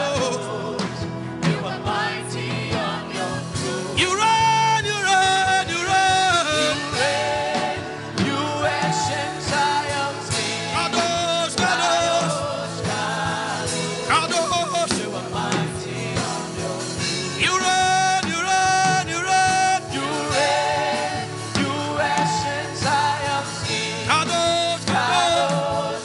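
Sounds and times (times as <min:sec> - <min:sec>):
instrumental backing: 0:00.0 - 0:26.0
steady percussion beat: 0:00.0 - 0:26.0
voices singing worship music: 0:00.0 - 0:26.0.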